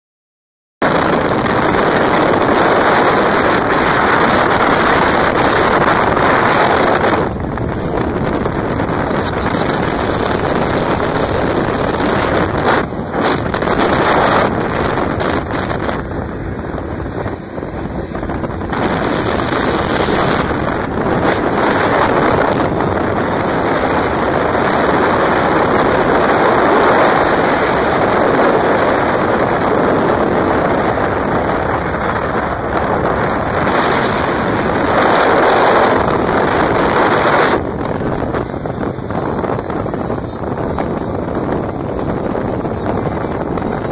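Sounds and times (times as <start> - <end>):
outboard motorboat running: 0.8 - 43.9
water rushing past hull: 0.8 - 43.9
wind on microphone: 0.8 - 43.9.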